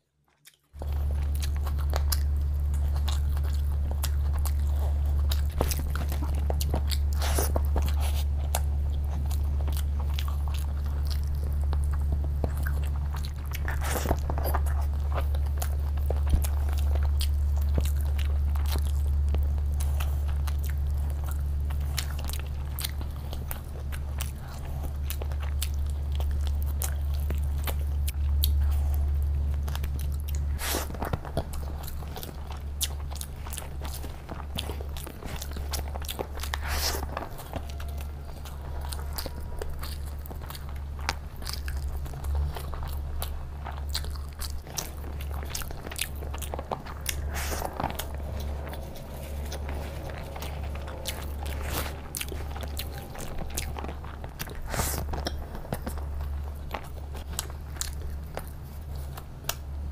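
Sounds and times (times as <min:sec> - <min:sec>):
steady low hum: 0:00.0 - 0:59.9
chewing and biting food: 0:00.3 - 0:59.9.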